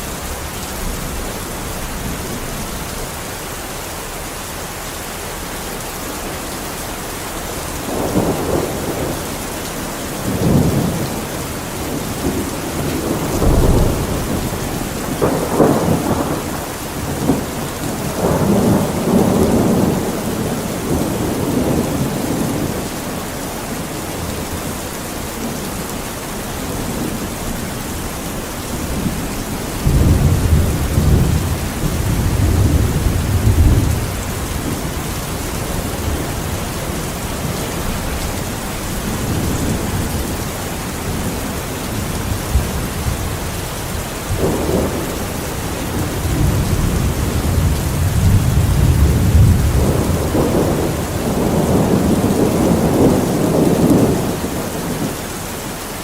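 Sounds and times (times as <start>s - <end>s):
heavy rain hiss: 0.0s - 56.0s
rolling thunder: 7.3s - 55.2s.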